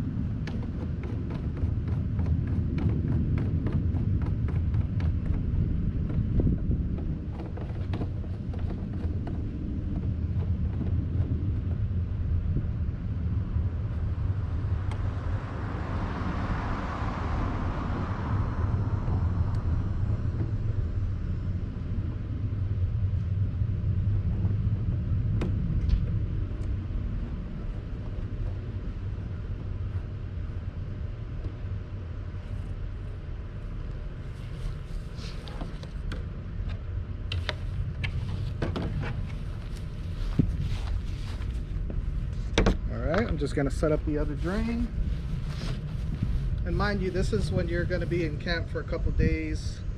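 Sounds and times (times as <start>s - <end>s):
low outdoor rumble: 0.0s - 49.9s.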